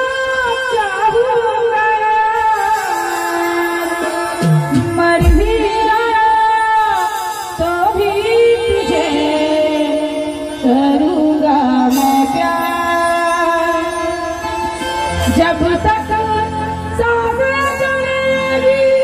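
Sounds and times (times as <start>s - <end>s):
woman singing into a microphone: 0.0s - 19.0s
electronic keyboard accompaniment: 1.9s - 19.0s.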